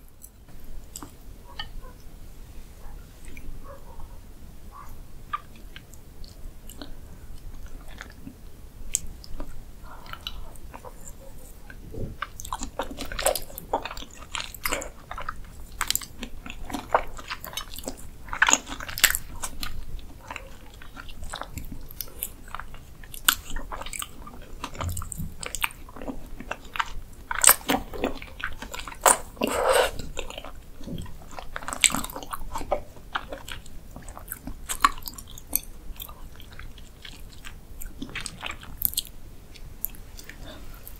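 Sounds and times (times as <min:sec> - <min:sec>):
wet chewing sounds: 0:00.0 - 0:02.1, 0:02.8 - 0:40.9.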